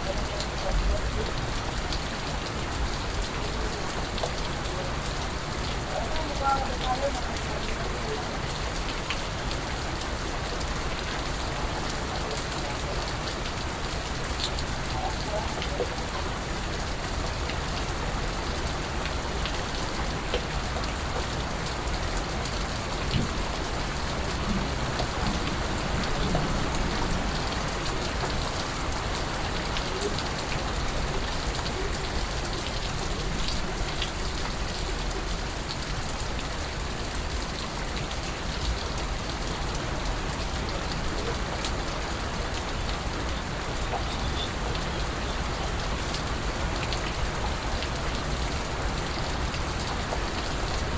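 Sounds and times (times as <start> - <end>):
rain pattering: 0.0 - 50.9.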